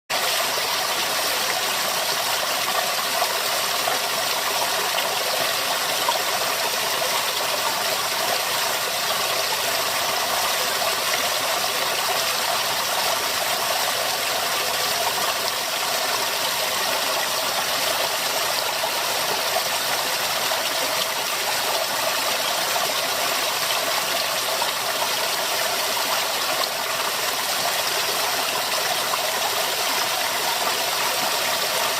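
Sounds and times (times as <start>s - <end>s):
running water rushing: 0.1s - 31.9s.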